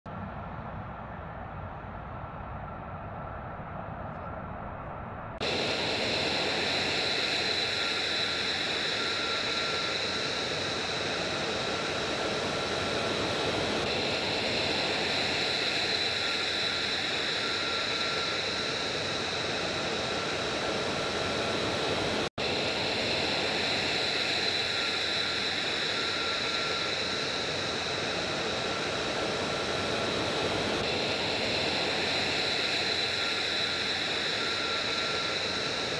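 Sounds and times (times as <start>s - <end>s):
high whine: 0.1s - 35.9s
jet engine rushing noise: 2.0s - 35.9s.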